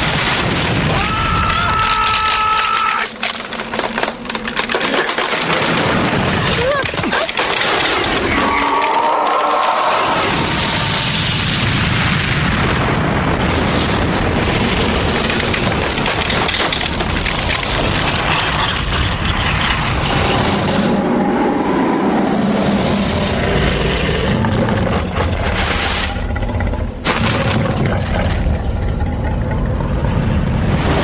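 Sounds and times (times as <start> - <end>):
ice cracking and breaking: 0.0 - 20.7, 24.6 - 29.0.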